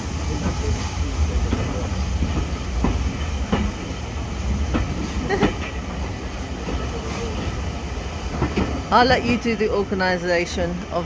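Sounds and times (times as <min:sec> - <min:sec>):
train rumbling: 0:00.0 - 0:11.0
wheels clacking over rails: 0:00.3 - 0:10.0.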